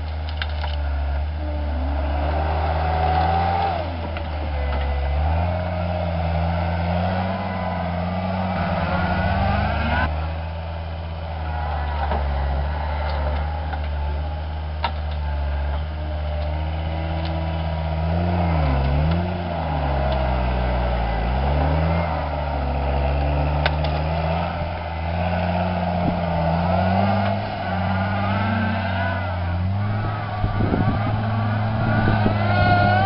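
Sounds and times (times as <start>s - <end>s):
diesel engine running hard: 0.0s - 33.0s.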